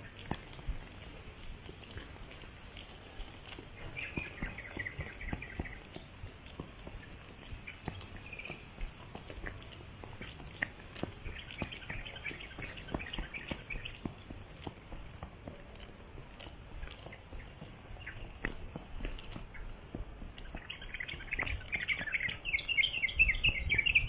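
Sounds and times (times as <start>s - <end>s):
footsteps clicking on path: 0.0s - 24.0s
small birds chirping: 0.0s - 24.0s.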